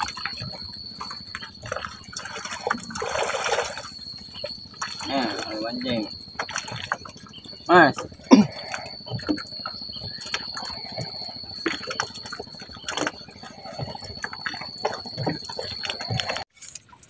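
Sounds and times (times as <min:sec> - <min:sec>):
steady high whine: 0:00.0 - 0:16.8
water sloshing against canoe: 0:00.0 - 0:17.0.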